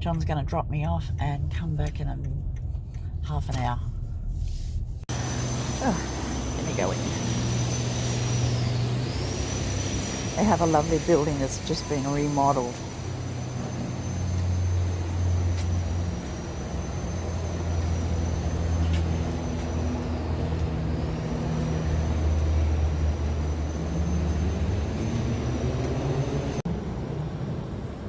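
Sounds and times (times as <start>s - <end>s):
traffic engine hum: 0.0s - 28.0s
rushing traffic noise: 3.9s - 28.0s
vehicle accelerating: 5.1s - 28.0s.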